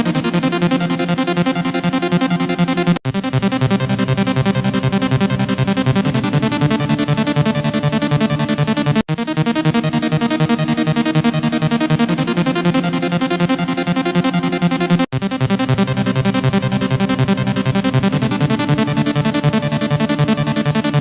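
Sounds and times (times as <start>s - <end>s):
pulsing synth beat: 2.3s - 21.0s.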